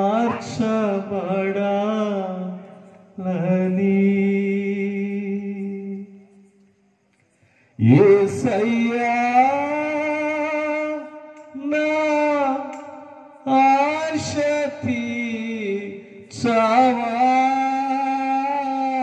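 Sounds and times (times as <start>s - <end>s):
person singing unaccompanied: 0.0s - 6.2s, 7.8s - 19.0s.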